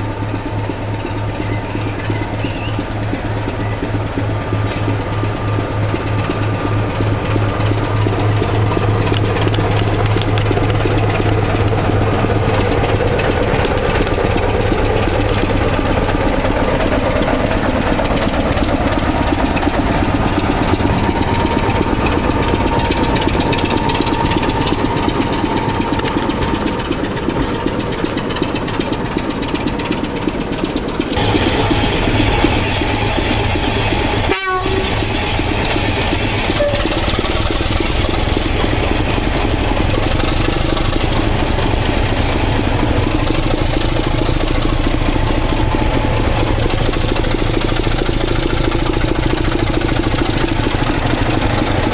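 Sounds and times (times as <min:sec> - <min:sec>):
locomotive engine throbbing: 0:00.0 - 0:51.9.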